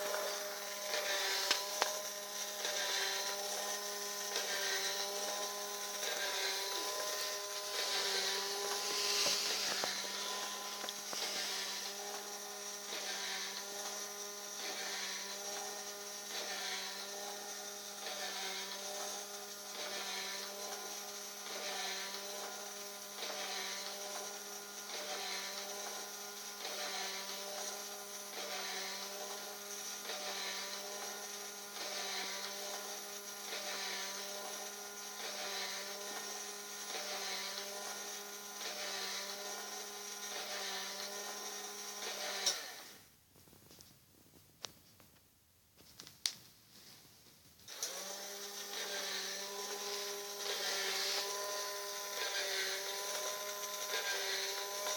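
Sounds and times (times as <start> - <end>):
small electric motor humming: 0.0 - 43.1, 47.7 - 54.9.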